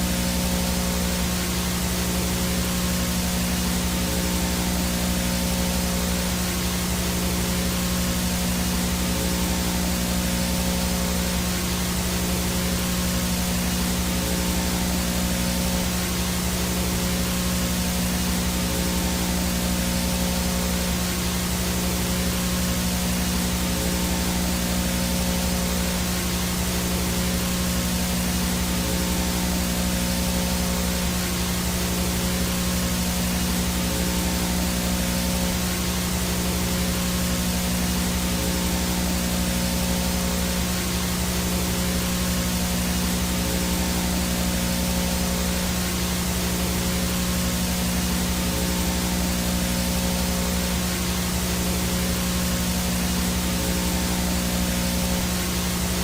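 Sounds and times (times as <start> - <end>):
white noise static hiss: 0.0 - 56.0.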